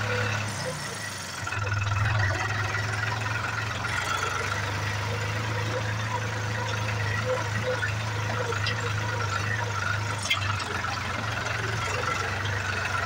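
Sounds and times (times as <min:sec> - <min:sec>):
tractor diesel engine droning: 0:00.0 - 0:13.0.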